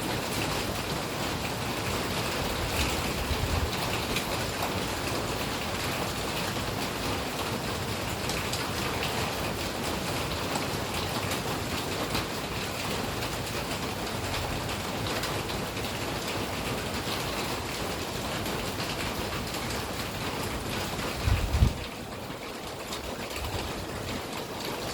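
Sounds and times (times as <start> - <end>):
steady rain falling: 0.0 - 24.9.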